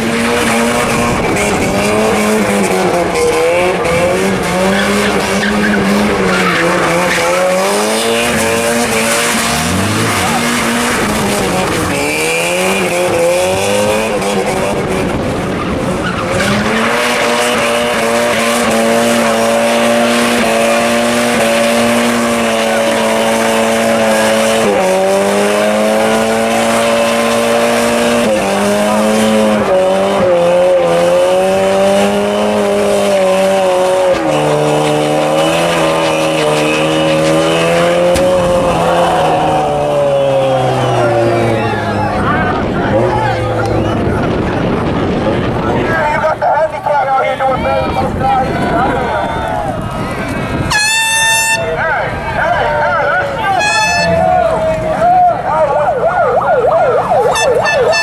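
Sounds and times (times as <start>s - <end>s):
tyres spinning and skidding: 0.0s - 50.7s
car engine at high revs: 0.0s - 50.8s.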